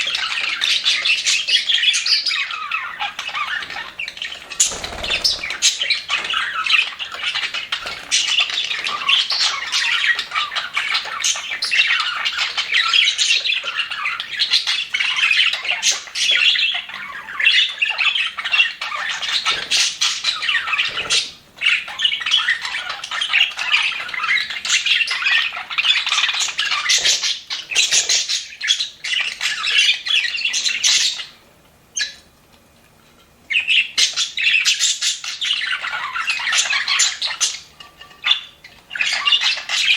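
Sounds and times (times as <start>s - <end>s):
budgerigars chattering and warbling: 0.0s - 31.4s, 33.5s - 39.9s.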